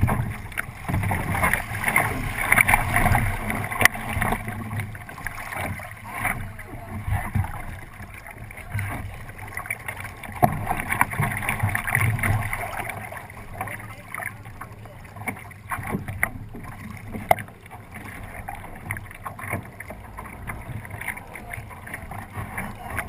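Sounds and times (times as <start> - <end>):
water rushing along hull: 0.0 - 23.0.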